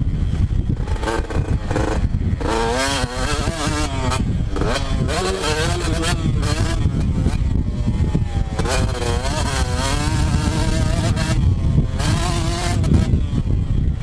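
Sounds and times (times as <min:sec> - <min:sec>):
low rumble: 0:00.0 - 0:14.0
motorcycle engine revving: 0:00.0 - 0:14.0.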